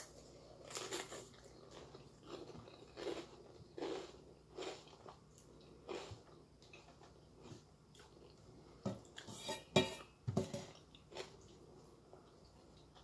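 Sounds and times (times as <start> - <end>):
person chewing food: 0.0 - 9.3, 10.5 - 13.0.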